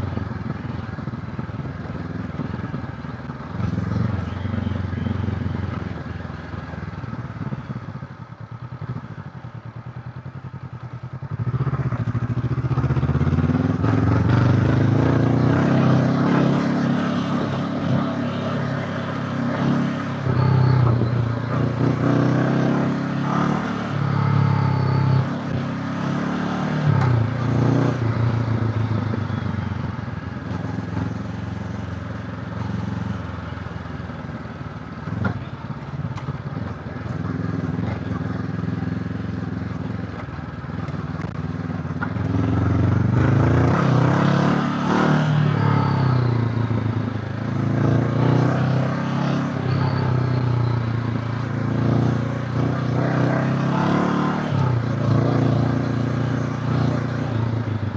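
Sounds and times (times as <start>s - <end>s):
motorcycle engine revving: 8.6s - 57.9s.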